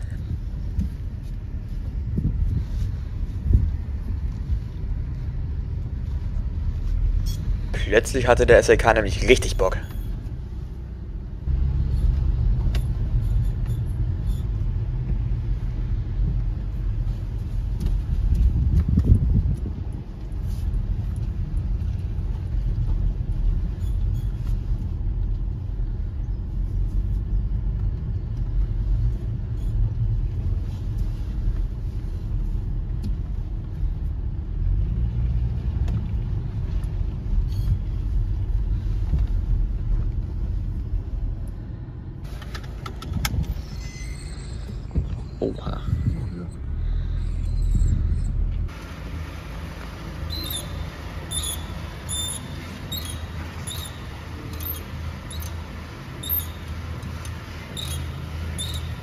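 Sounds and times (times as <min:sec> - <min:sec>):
brake squeaks: 0:00.0 - 0:19.2, 0:19.8 - 0:35.2, 0:35.8 - 0:40.7, 0:42.2 - 0:49.0, 0:49.7 - 0:59.0
car rolling with low rumble: 0:00.0 - 0:59.0.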